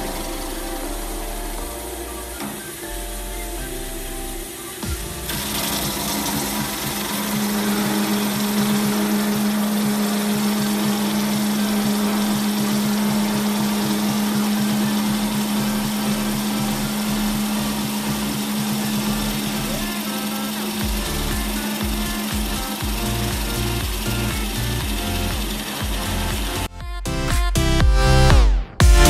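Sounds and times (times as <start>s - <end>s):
power tool motor humming: 0.0s - 26.7s.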